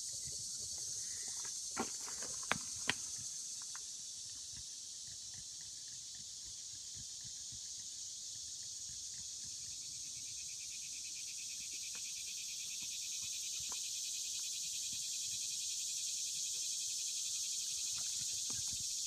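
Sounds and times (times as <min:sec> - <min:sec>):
cicadas droning: 0:00.0 - 0:19.0
fast pulsing insect layer: 0:00.0 - 0:19.0.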